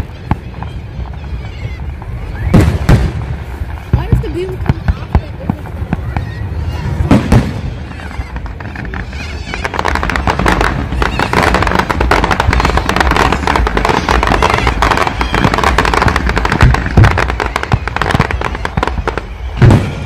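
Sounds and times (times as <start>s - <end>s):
fireworks booms: 0.0s - 20.0s
fireworks crackling: 0.0s - 20.0s.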